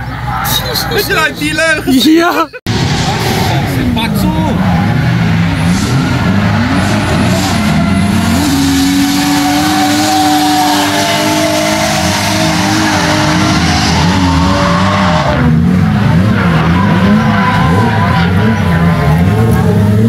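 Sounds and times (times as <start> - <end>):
car engine revving: 2.7 - 20.0
spinning tyres hissing: 2.7 - 20.0.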